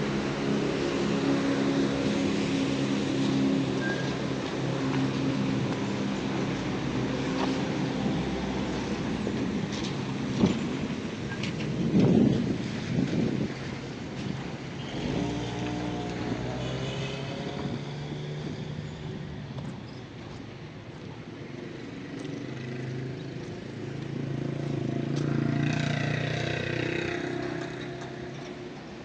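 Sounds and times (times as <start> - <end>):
vehicles passing on street: 0.0 - 29.0.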